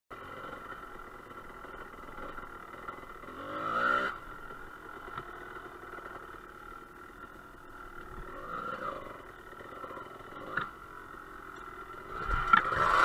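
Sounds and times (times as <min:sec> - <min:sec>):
dirt bike engine running: 0:00.1 - 0:13.0.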